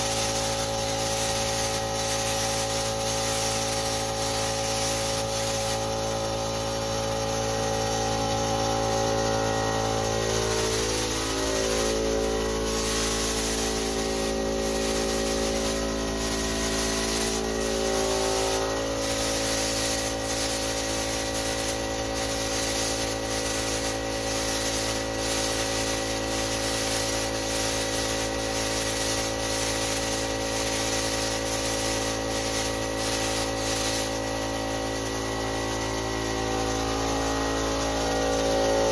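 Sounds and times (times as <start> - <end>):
air compressor hum: 0.0 - 38.9
spray gun hissing: 0.0 - 38.9.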